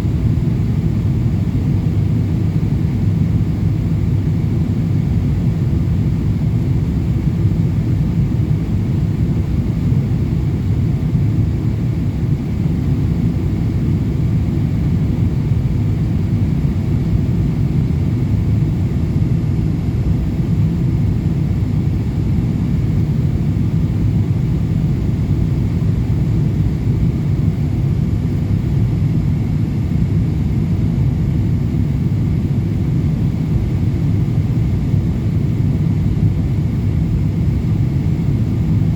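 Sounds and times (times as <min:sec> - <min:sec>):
airliner engines droning: 0:00.0 - 0:38.9
faint steady whine: 0:00.0 - 0:38.9.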